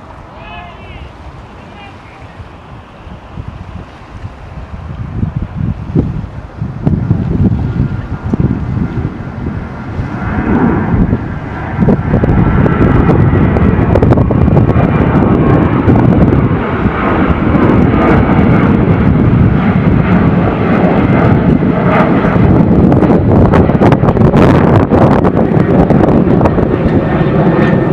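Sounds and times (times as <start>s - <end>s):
jet engines at takeoff: 0.0s - 27.9s.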